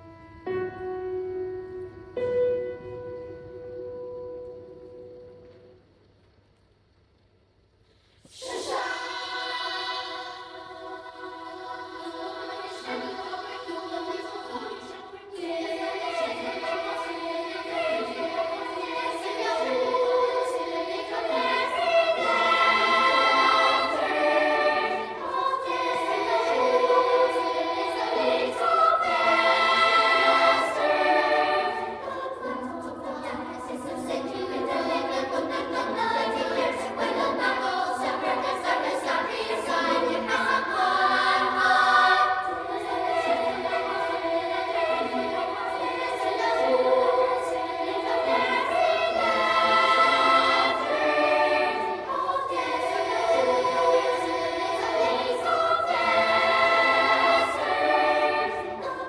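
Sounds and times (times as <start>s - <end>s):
children's choir singing: 8.3s - 59.0s.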